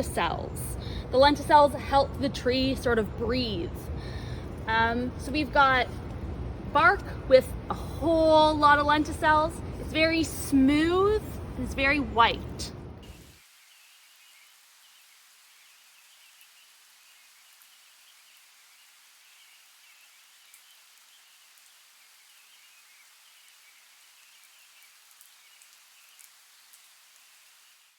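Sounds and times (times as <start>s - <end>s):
low hiss: 0.0s - 27.9s.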